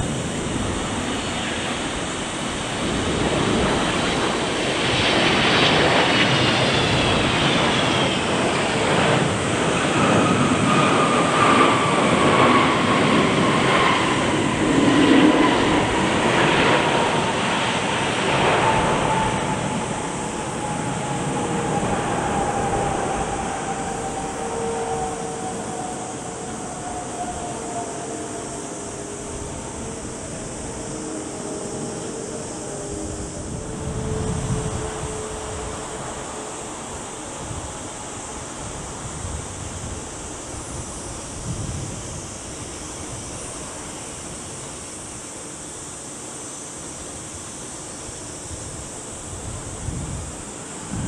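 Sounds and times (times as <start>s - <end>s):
jet airliner engines landing: 0.0s - 51.0s.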